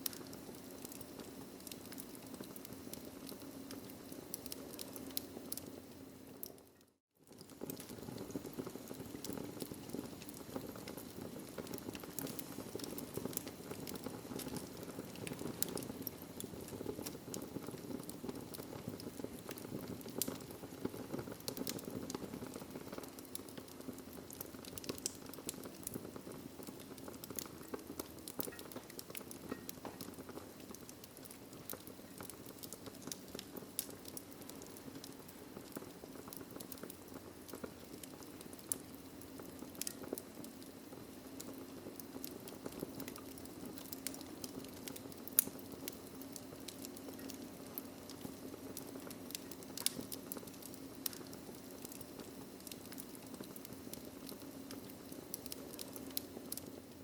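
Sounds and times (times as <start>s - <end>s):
fire popping and snapping: 0.0s - 57.0s.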